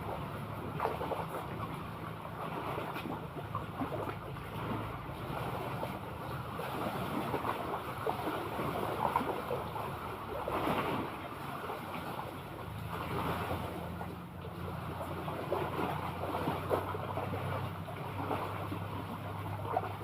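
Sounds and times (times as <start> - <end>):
low motor hum: 0.0 - 20.0
sea water splashing: 0.0 - 20.0.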